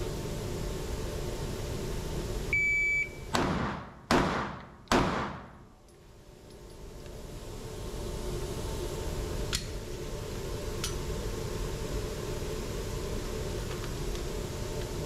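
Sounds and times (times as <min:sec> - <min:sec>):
ventilation system hum: 0:00.0 - 0:15.0.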